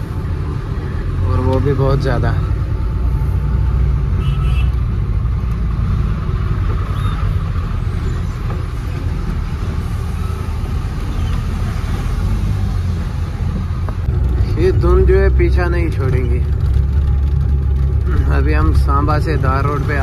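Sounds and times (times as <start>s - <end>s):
diesel truck engine rumbling: 0.0s - 20.0s
road noise: 0.0s - 20.0s.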